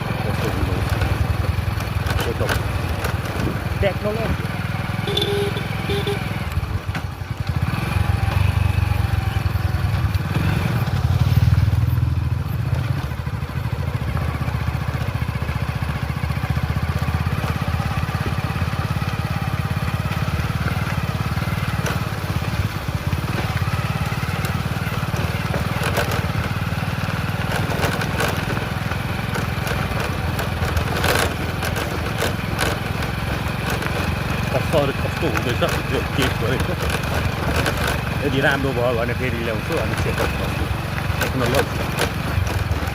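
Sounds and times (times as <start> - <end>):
motorcycle running on road: 0.0 - 42.9.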